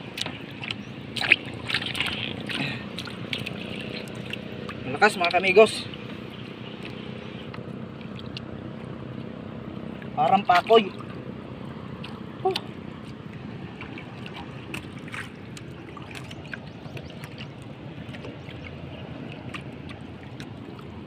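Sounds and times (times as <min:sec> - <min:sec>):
water washing against boat hull: 0:00.0 - 0:21.0.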